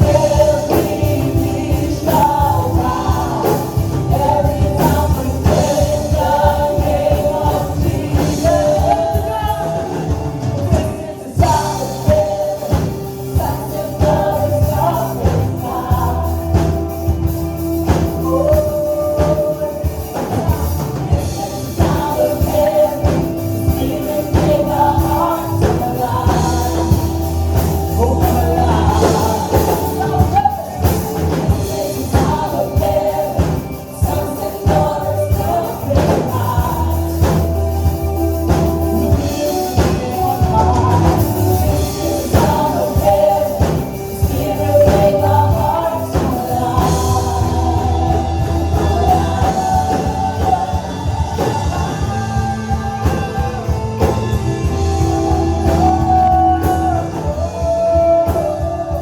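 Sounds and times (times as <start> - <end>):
person singing: 0.0 - 59.0
worship band playing: 0.0 - 59.0.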